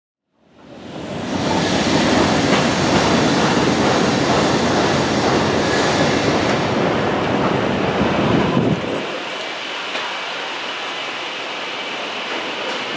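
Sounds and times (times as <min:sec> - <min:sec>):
train rumbling with rail clatter: 0:00.4 - 0:12.9.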